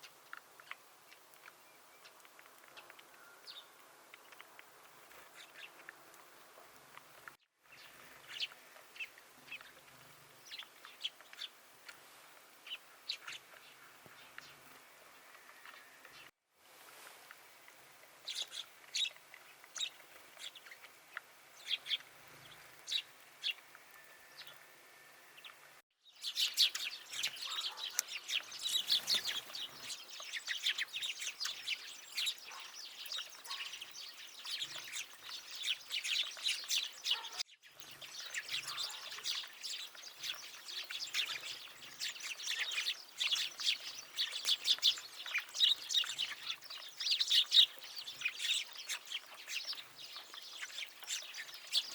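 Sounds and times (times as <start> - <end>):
small songbirds chirping: 0.0 - 16.4, 17.4 - 51.9.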